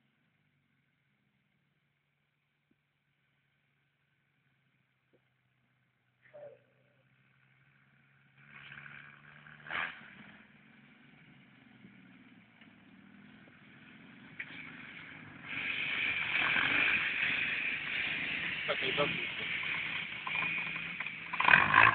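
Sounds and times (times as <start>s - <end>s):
buggy engine running: 0.0s - 21.9s.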